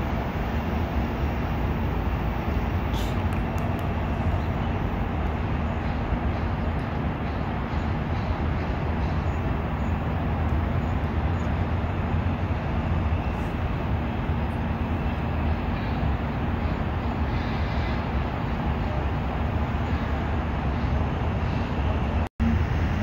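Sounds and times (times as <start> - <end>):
city noise rumble and hiss: 0.0 - 23.0
constant low hum: 0.0 - 23.0.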